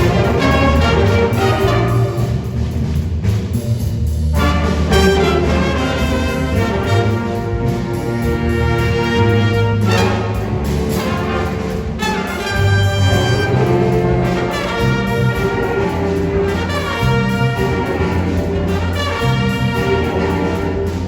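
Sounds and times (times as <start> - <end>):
low bass line: 0.0 - 21.0
sustained instrumental chords: 0.0 - 21.0.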